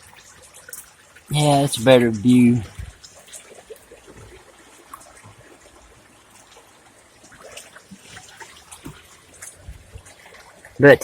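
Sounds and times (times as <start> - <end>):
faint trickling water: 0.0 - 11.0.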